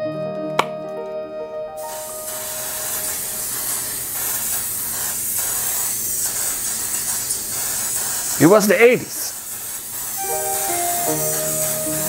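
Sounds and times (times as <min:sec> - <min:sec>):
aerosol can spraying: 0:01.8 - 0:12.0.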